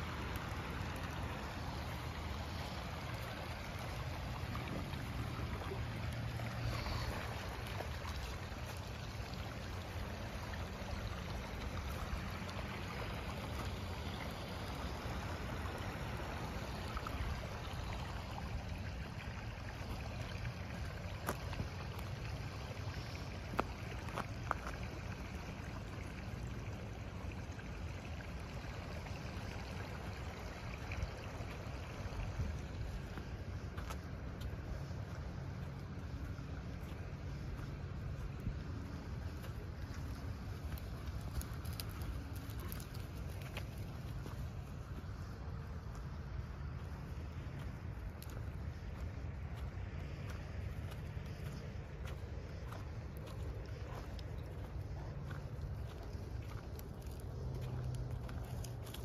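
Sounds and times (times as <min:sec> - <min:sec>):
creek flowing: 0:00.0 - 0:59.0.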